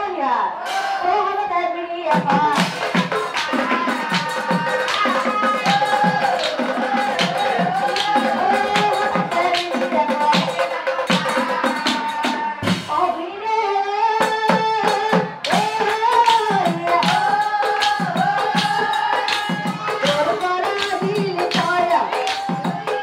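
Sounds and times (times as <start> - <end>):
drums beating: 2.1 - 13.2, 14.2 - 23.0.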